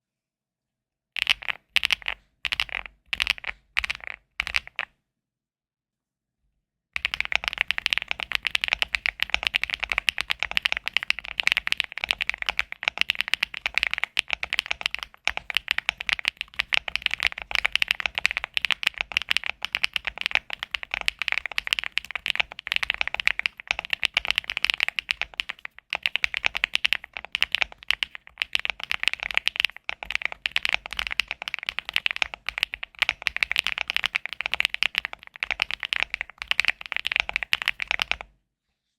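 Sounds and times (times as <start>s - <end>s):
typing on mechanical keyboard: 1.2s - 4.9s, 7.0s - 38.3s.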